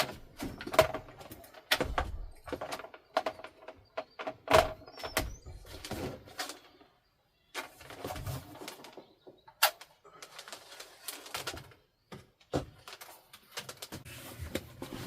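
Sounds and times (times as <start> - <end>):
clicks and rustles: 0.0 - 6.9, 7.5 - 15.0.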